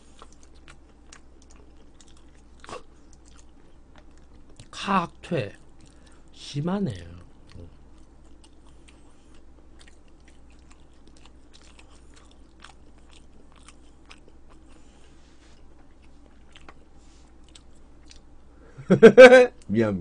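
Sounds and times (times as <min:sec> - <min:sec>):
person chewing food: 0:00.0 - 0:04.8, 0:05.5 - 0:06.3, 0:07.0 - 0:18.5
low steady hum: 0:00.0 - 0:20.0.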